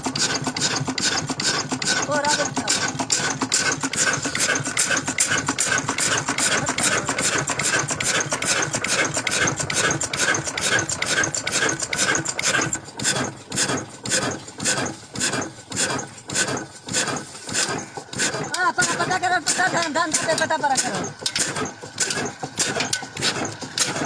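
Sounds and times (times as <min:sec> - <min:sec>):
diesel engine exhaust beats: 0:00.0 - 0:24.0.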